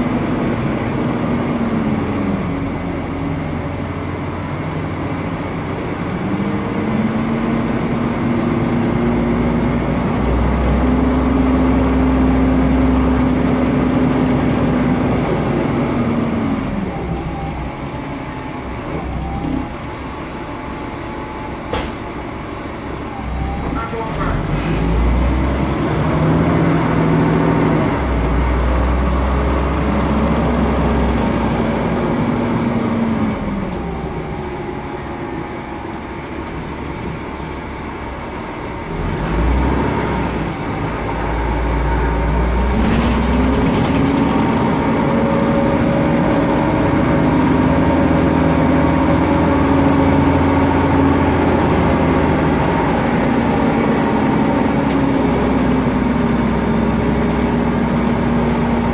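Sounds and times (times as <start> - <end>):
bus engine and cooling fan: 0.0 - 58.9.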